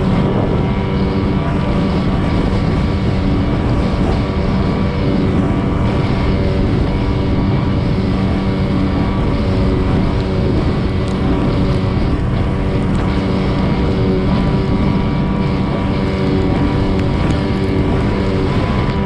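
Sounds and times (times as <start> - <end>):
outboard motor running: 0.0 - 19.0
wind and water rushing: 0.0 - 19.0.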